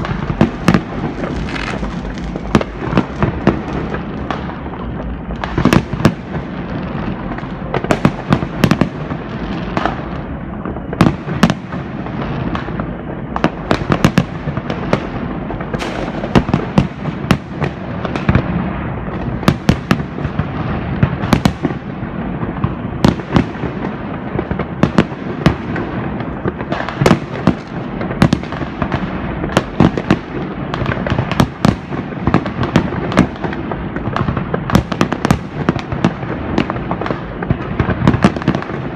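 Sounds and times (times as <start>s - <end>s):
fireworks bangs and crackling: 0.0s - 38.9s
rumble of distant explosions: 0.0s - 38.9s.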